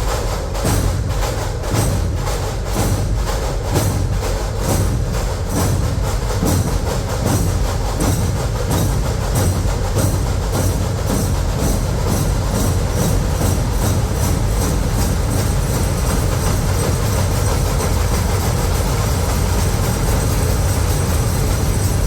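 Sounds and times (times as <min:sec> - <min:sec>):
big drums beating low pulse: 0:00.0 - 0:22.0
snare drums rapid strokes: 0:00.0 - 0:22.0.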